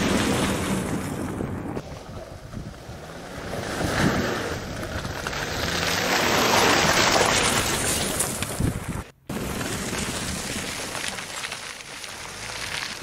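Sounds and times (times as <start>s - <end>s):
car engine and tyre noise: 0.0s - 13.0s
wind rumbling on microphone: 0.0s - 13.0s.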